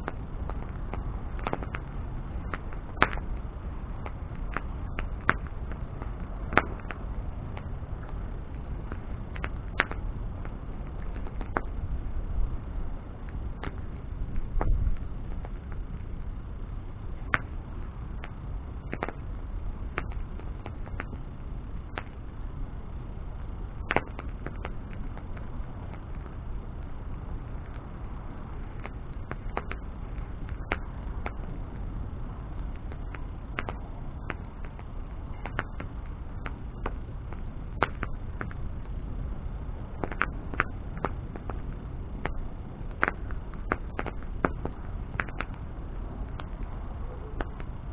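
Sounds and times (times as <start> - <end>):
bonfire crackling: 0.0 - 47.9.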